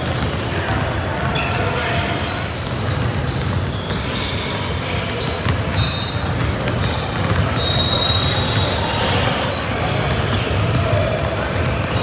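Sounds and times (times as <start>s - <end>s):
basketballs dribbling on hardwood: 0.0s - 12.0s
sneakers squeaking on court: 0.0s - 12.0s.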